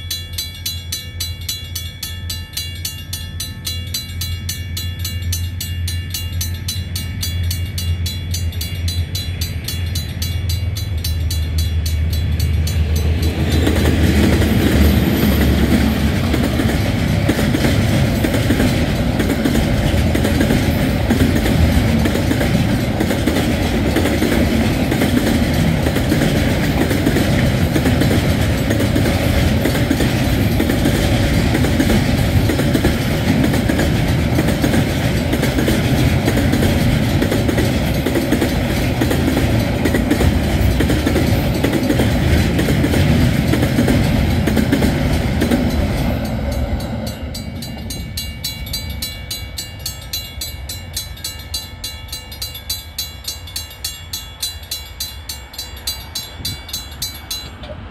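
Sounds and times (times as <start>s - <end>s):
crossing warning bell ringing: 0.0s - 57.9s
train wheels on rails: 0.0s - 57.9s.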